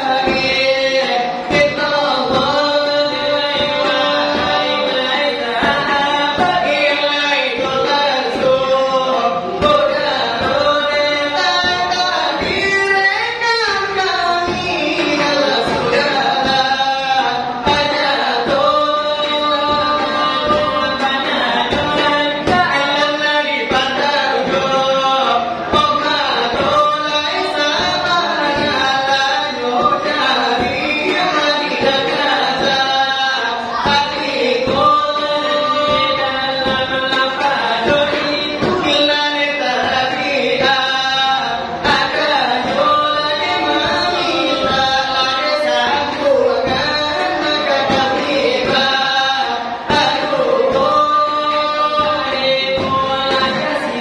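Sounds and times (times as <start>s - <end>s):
person singing: 0.0s - 54.0s.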